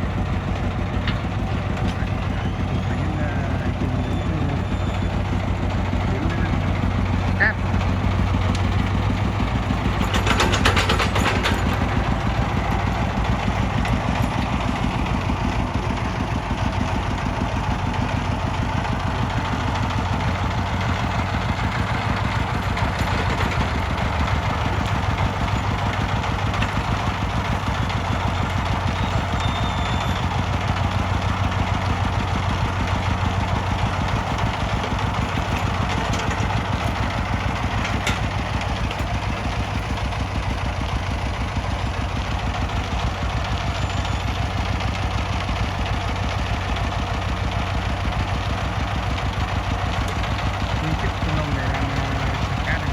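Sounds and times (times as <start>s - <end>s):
diesel engine running: 0.0s - 52.9s
rapid clatter: 0.1s - 52.9s.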